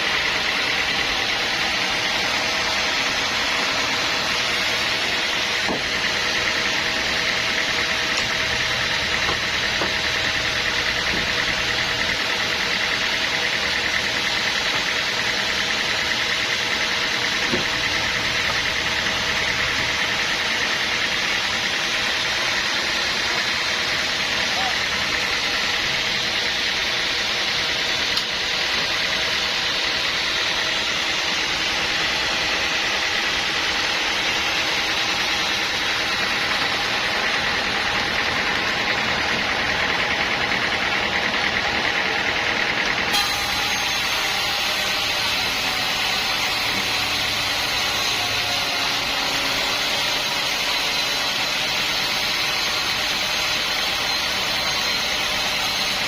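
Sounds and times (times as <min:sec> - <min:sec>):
sawmill machinery drone with whine: 0:00.0 - 0:56.0.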